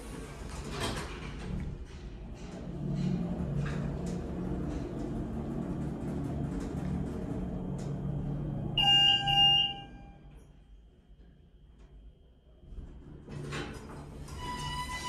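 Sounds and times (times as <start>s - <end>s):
elevator low hum: 0.1s - 15.0s.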